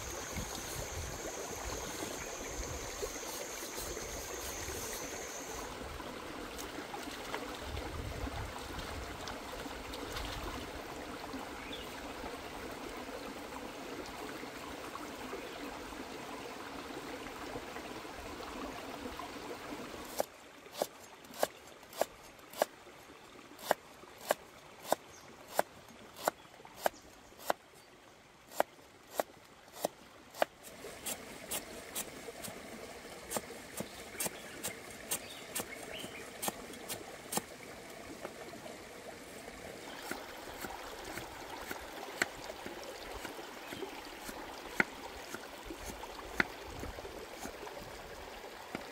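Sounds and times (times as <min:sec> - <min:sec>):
stream running over rocks: 0:00.0 - 0:48.9.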